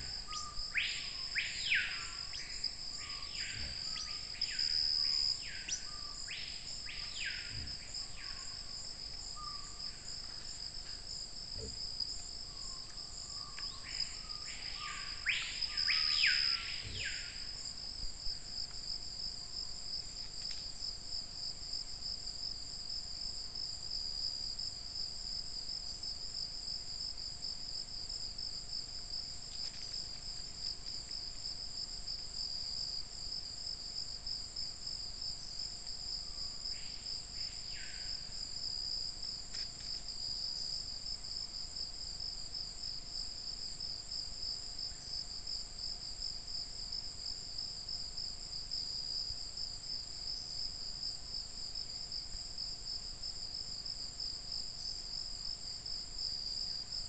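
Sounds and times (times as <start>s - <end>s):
insects trilling: 0.0s - 24.7s, 25.3s - 57.0s.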